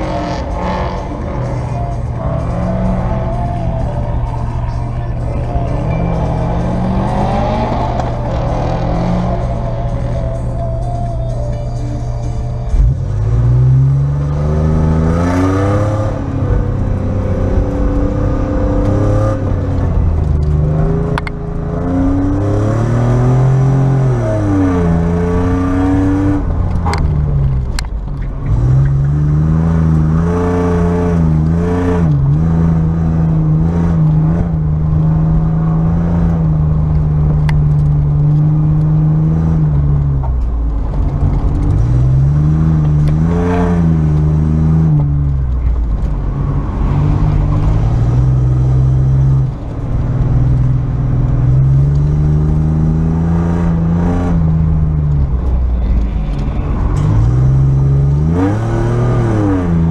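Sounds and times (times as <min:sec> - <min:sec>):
truck engine revving: 0:00.0 - 0:11.4, 0:12.7 - 0:59.9.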